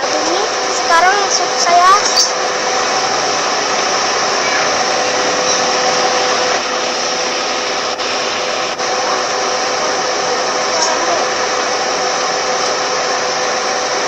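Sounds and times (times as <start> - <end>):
electric fan whirring: 0.0 - 14.0.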